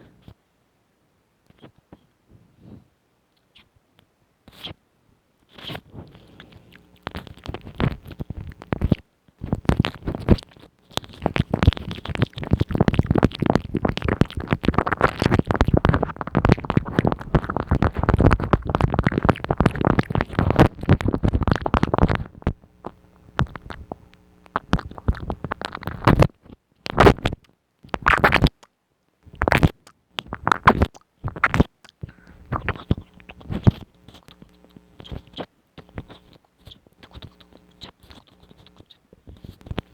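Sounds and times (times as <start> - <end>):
crackling scratchy clicks: 5.5 - 39.9.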